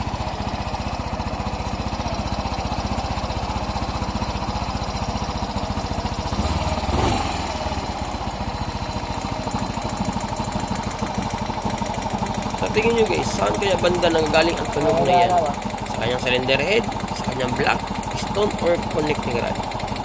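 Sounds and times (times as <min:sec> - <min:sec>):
scooter engine idling with ticking: 0:00.0 - 0:20.0.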